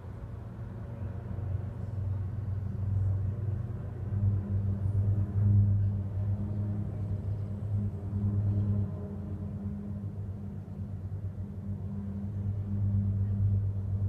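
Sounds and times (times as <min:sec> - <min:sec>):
propeller aircraft drone: 0:00.0 - 0:14.0.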